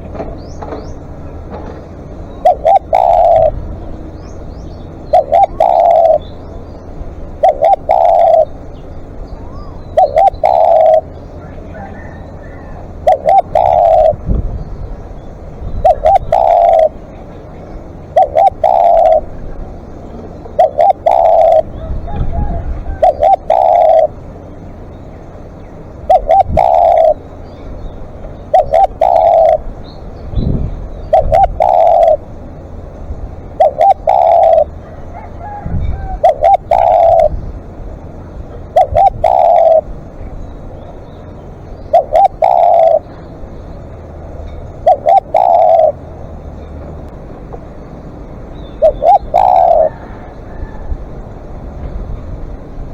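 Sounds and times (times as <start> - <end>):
dove cooing: 0.0 - 14.5, 15.6 - 24.5, 25.3 - 32.8, 33.4 - 43.3, 44.5 - 46.1, 48.6 - 50.9.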